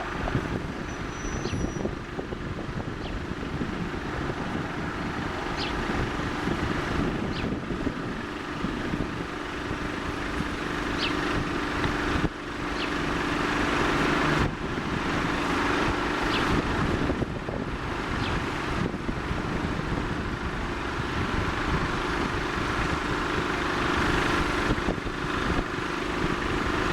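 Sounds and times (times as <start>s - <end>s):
jet engines running: 0.0s - 26.9s
wind noise on microphone: 0.0s - 26.9s.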